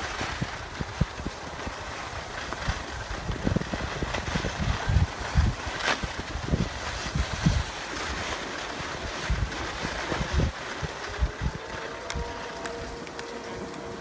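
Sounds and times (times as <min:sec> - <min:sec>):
skis sliding on snow: 0:00.0 - 0:14.0
wind buffeting microphone: 0:00.0 - 0:14.0.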